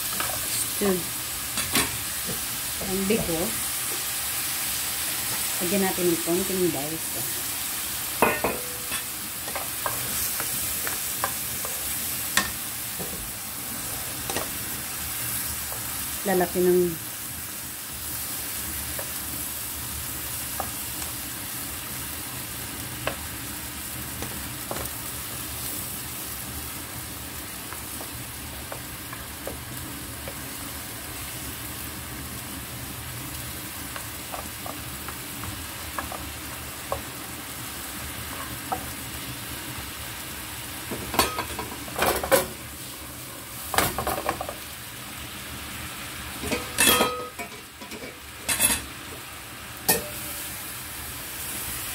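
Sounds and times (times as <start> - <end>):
meat sizzling in a frying pan: 0.0 - 51.9.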